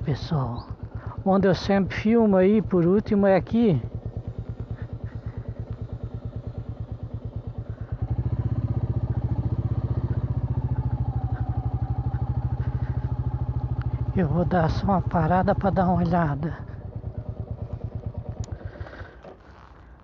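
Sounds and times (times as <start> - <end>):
motorcycle engine thumping: 2.6 - 19.8.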